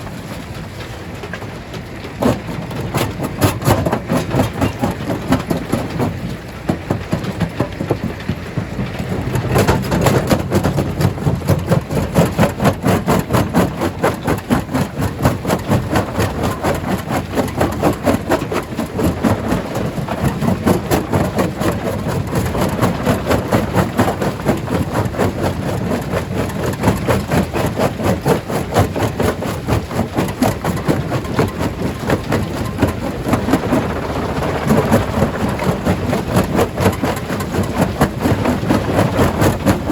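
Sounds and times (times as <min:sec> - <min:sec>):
low machine rumble: 0:00.0 - 0:27.4, 0:30.4 - 0:39.9
stone crusher pounding: 0:02.0 - 0:39.9.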